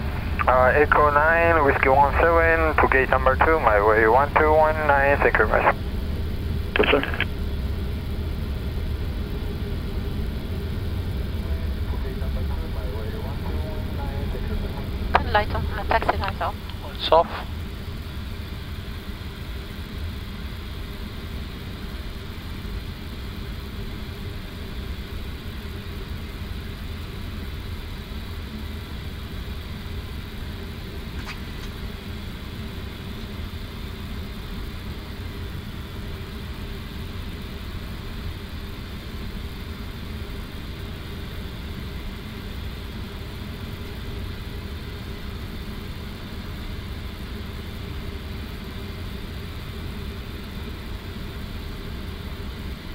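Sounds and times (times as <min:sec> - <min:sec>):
aircraft engine low hum: 0:00.0 - 0:52.9
hiss of cockpit air and fans: 0:00.0 - 0:52.9.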